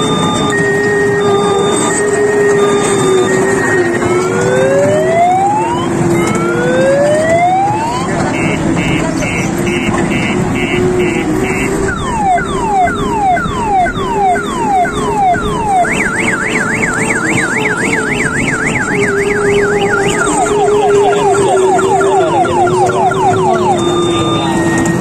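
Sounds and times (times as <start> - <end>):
electronic siren: 0.0 - 25.0.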